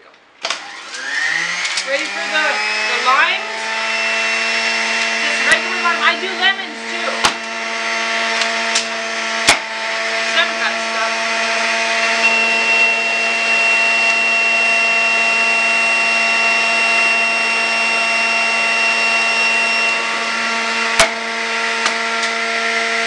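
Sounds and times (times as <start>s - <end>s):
juicer motor whining: 0.4s - 23.0s.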